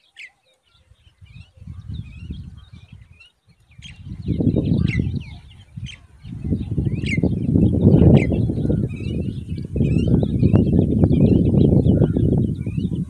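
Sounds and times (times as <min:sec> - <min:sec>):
high bird chirps: 0:00.0 - 0:13.0.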